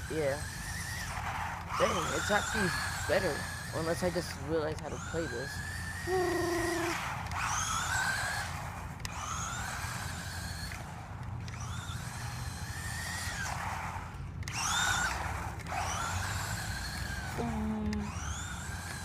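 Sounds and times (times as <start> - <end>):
toy car electric motor whining: 0.0 - 19.0.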